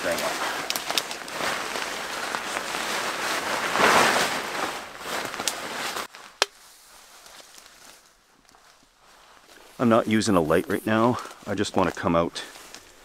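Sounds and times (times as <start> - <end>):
tarp rustling and crinkling: 0.0 - 13.0.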